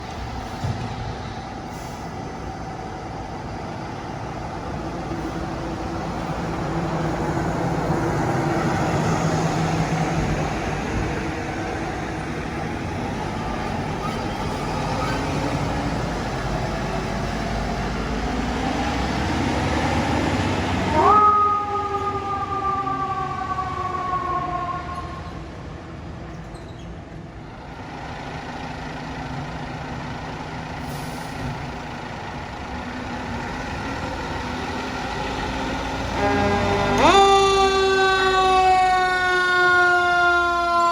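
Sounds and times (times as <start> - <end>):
fire truck engine: 0.0 - 40.9
traffic noise: 0.0 - 40.9.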